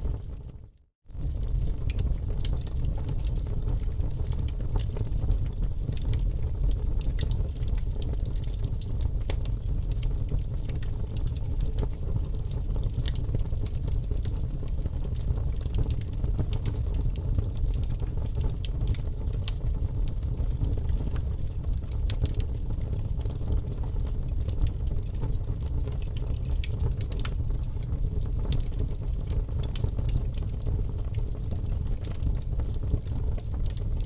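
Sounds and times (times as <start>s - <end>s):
wood fire crackling: 1.2s - 34.0s.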